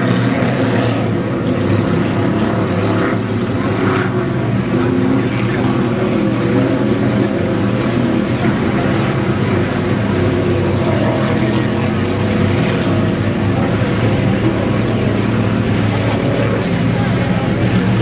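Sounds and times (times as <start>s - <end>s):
racing boat engine drone: 0.0s - 18.0s.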